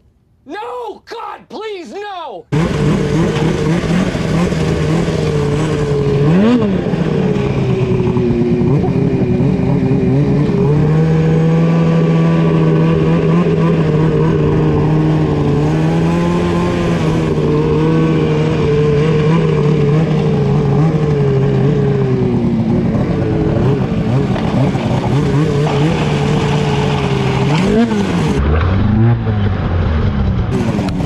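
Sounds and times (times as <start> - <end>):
snowmobile engine running: 2.5 - 31.0
track and snow rush: 2.5 - 31.0.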